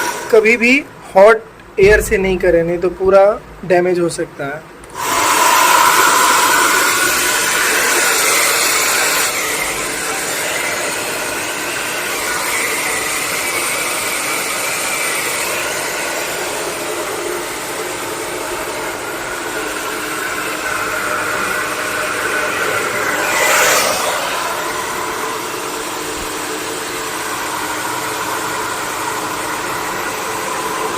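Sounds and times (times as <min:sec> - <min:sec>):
electric air blower whirring: 0:00.0 - 0:00.8, 0:04.9 - 0:30.9
cooling fans spinning: 0:04.8 - 0:30.9.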